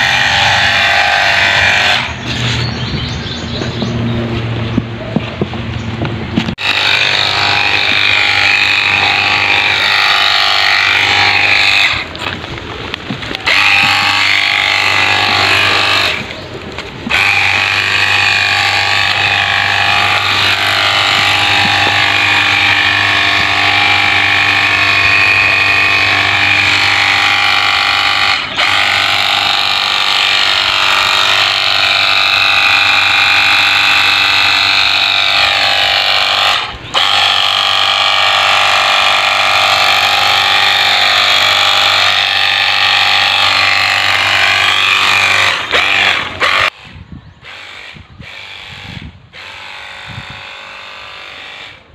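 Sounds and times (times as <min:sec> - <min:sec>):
pressure washer pump whine: 0:00.0 - 0:02.7, 0:06.5 - 0:51.9.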